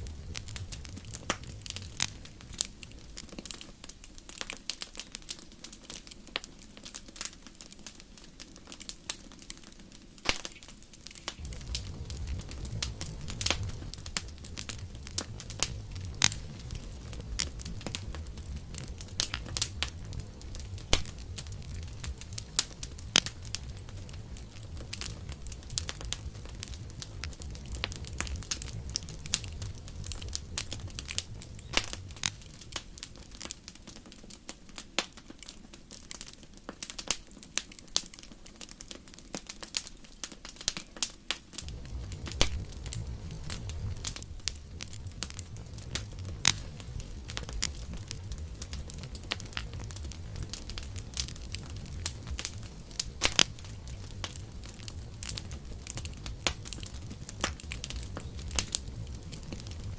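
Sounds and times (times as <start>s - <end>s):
campfire crackling: 0.0s - 59.9s
low rumble of flame: 0.0s - 59.9s.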